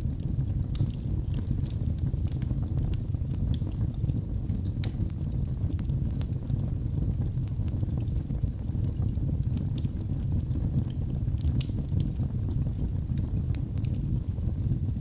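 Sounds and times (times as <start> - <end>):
burning wood crackling: 0.0 - 15.0
fire flames rumbling: 0.0 - 15.0.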